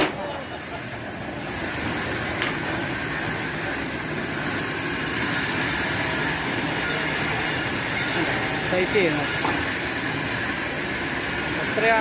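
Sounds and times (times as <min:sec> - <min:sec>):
high machine whine: 0:00.0 - 0:12.0
sawmill machinery running: 0:00.0 - 0:12.0.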